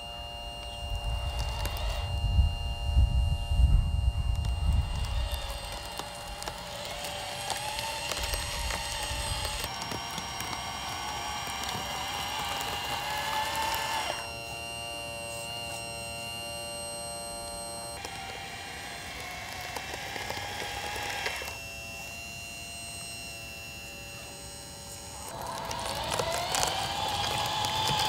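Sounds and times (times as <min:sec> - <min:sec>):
toy bulldozer motors whining: 0:00.0 - 0:28.0.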